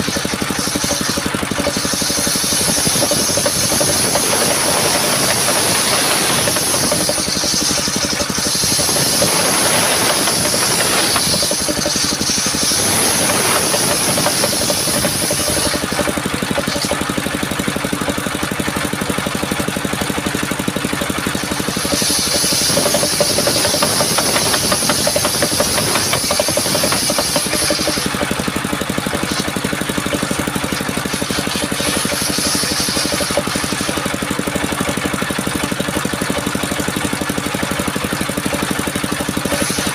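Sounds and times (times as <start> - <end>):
saw hissing through wood: 0.0 - 17.9, 20.8 - 39.9
sawmill engine running: 0.0 - 39.9.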